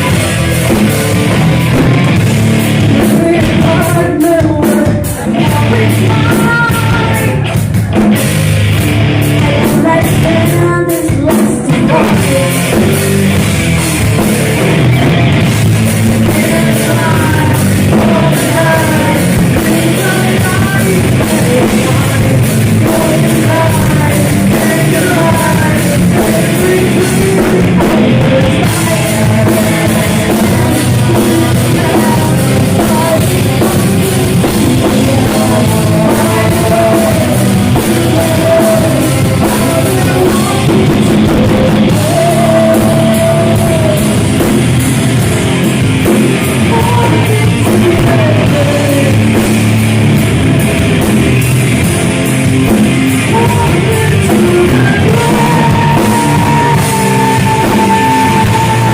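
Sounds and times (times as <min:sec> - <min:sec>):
distorted guitars: 0:00.0 - 0:58.9
drums: 0:00.0 - 0:58.9
person singing: 0:00.0 - 0:58.9.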